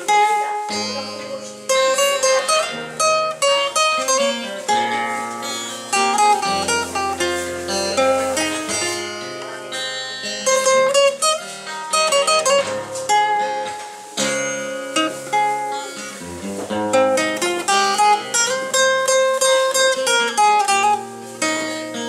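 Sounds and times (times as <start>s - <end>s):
plucked string instrument: 0.0s - 22.0s.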